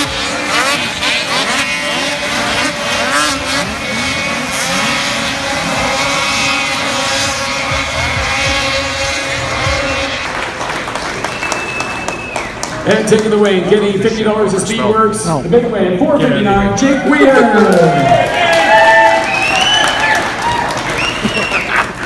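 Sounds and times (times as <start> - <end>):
snowmobile engines revving: 0.0 - 22.0.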